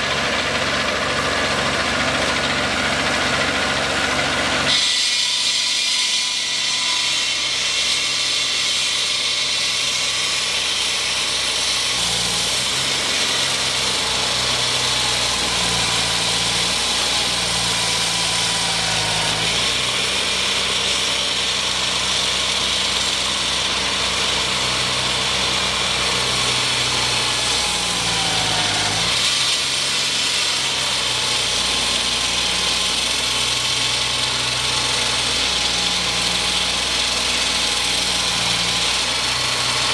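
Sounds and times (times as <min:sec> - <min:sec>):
construction machinery engine drone: 0:00.0 - 0:39.9.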